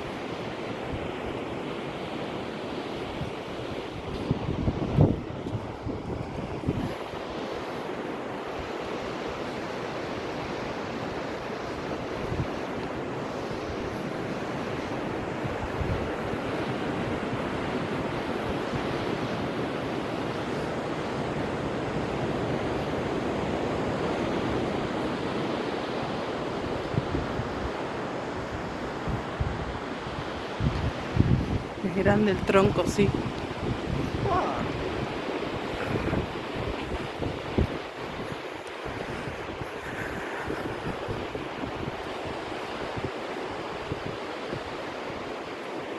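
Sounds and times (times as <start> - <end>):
ocean surf washing onto beach: 0.0 - 45.9
wind on microphone: 2.9 - 9.5, 11.0 - 45.5.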